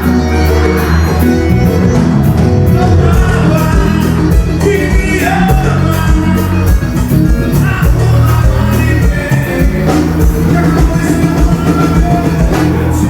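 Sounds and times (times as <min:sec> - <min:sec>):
band music: 0:00.0 - 0:13.0
man singing: 0:00.0 - 0:13.0
steady drum beat: 0:00.0 - 0:13.0.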